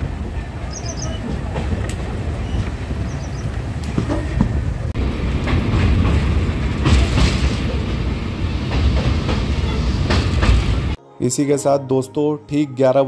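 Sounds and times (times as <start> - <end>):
train coaches rumbling: 0.0 - 11.0
wheels clacking over rail joints: 0.0 - 11.0.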